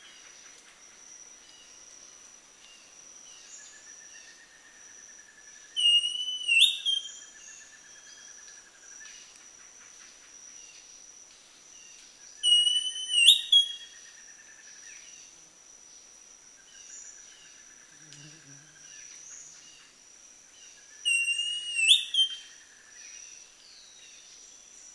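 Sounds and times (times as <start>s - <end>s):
high insect-like whine: 0.0s - 24.9s.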